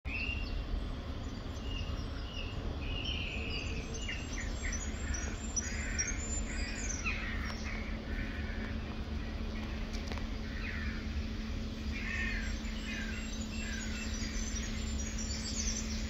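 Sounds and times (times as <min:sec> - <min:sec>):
small birds chirping: 0:00.1 - 0:16.0
steady low hum: 0:00.1 - 0:16.0.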